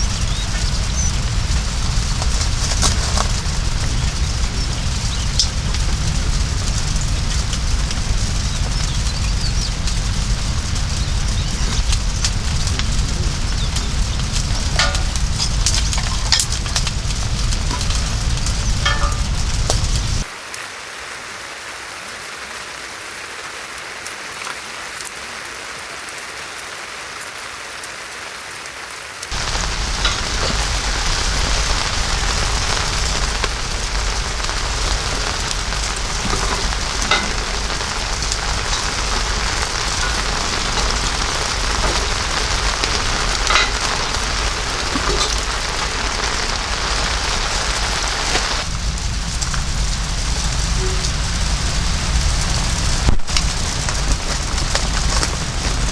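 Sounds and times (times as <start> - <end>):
raindrops ticking: 0.0 - 20.3, 29.2 - 55.9
heavy rain pouring: 0.0 - 55.9.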